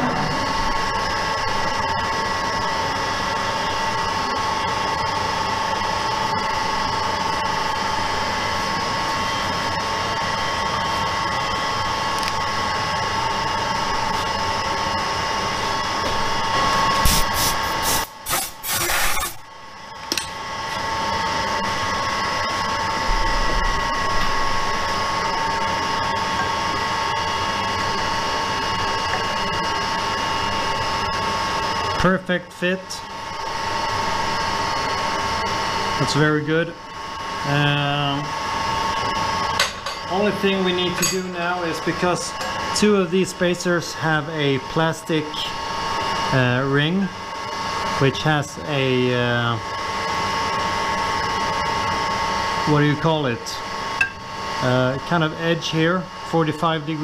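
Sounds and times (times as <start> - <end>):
metal lathe cutting whine: 0.0 - 57.0.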